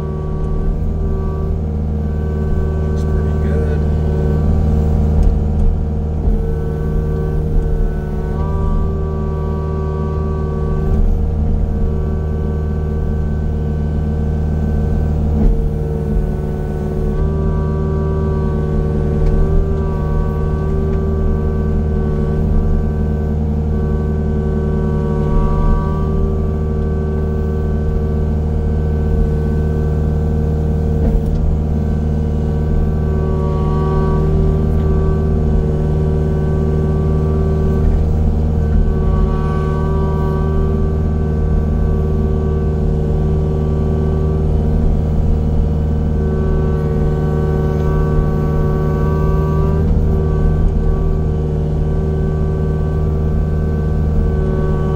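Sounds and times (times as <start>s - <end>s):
heavy machine engine drone: 0.0s - 54.9s
steady whine: 0.0s - 54.9s.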